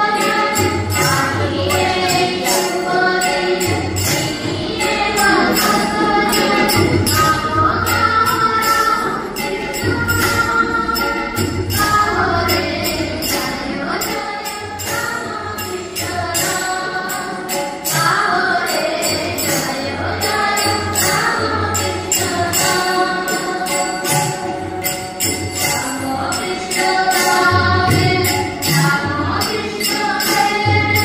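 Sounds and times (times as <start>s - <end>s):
group singing a hymn: 0.0s - 24.2s, 26.0s - 31.0s
jingling metal percussion: 0.0s - 31.0s.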